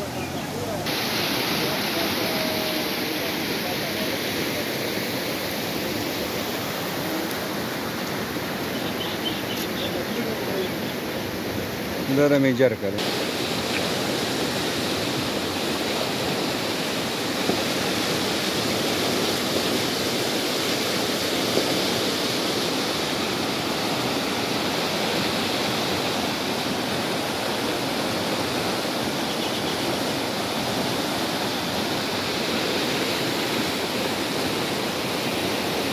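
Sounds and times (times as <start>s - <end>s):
water rushing down a channel: 0.0s - 35.9s.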